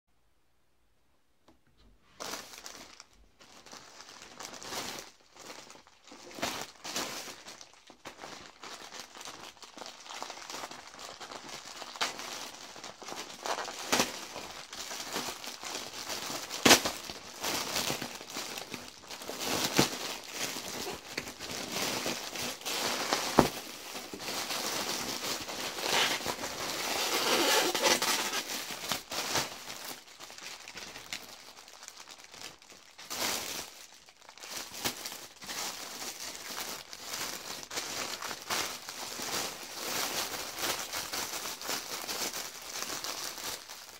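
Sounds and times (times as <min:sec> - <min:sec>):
plastic bag crinkling: 0:02.2 - 0:43.9
plastic mailer crinkling and tearing: 0:02.2 - 0:43.9.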